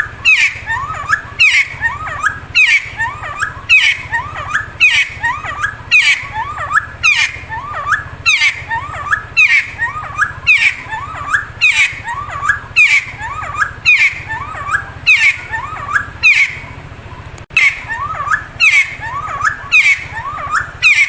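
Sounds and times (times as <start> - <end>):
bird singing whistled phrases: 0.0 - 21.0
low steady buzz: 0.0 - 21.0.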